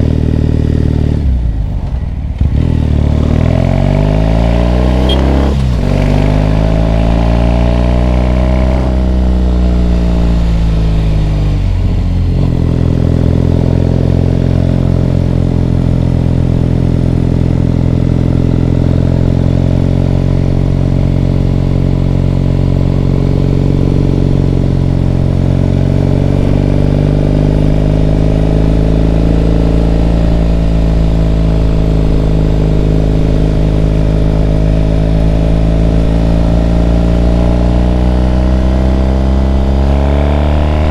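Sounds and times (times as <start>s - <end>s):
motorcycle engine on the road: 0.0s - 40.9s.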